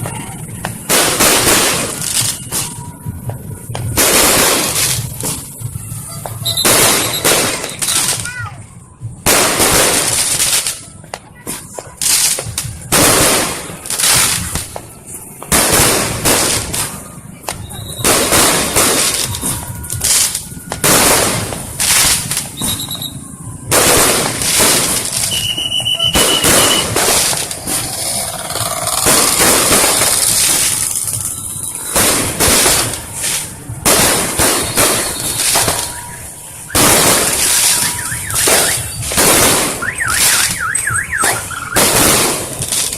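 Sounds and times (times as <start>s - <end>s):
fireworks banging and crackling: 0.0s - 42.9s
firework whistle: 0.6s - 8.5s, 15.7s - 42.9s.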